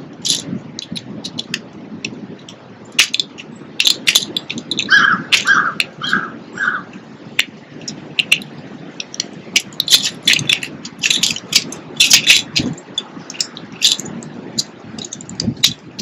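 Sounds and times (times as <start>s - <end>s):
birds clicking and chipping: 0.0s - 16.0s.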